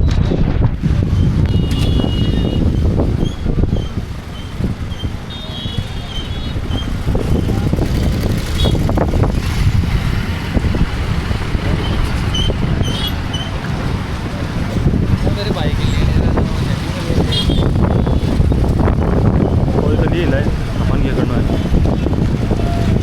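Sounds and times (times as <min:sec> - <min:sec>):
road vehicles rumbling: 0:00.0 - 0:23.0
wind buffeting microphone: 0:00.0 - 0:23.0.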